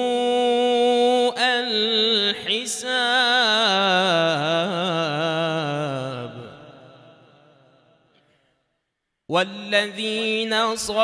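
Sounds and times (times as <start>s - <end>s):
man chanting melodically: 0.0s - 7.6s, 9.3s - 11.0s.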